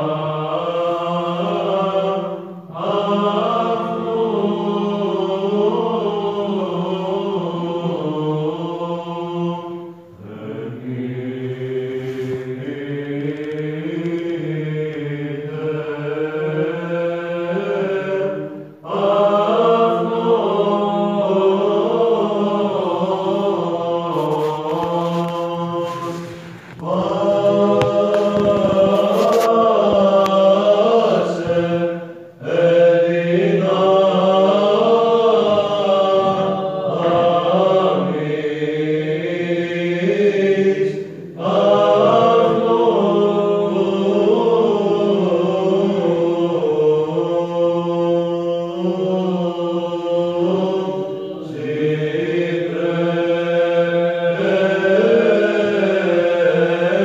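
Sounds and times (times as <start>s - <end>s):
men chanting: 0.0s - 57.0s.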